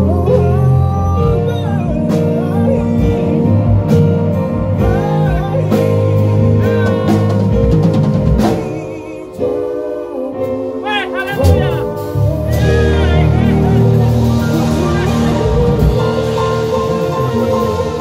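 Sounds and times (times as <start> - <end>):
bass: 0.0 - 18.0
drum kit: 0.0 - 18.0
keyboard chords: 0.0 - 18.0
person singing: 0.0 - 18.0.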